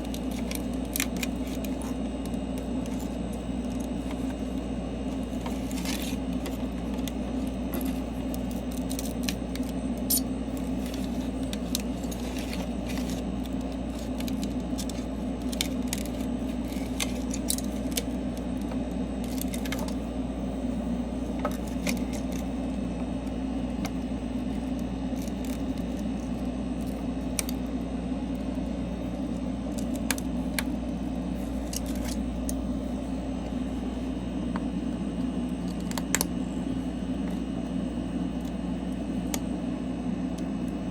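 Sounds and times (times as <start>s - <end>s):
low machine hum: 0.0s - 40.9s.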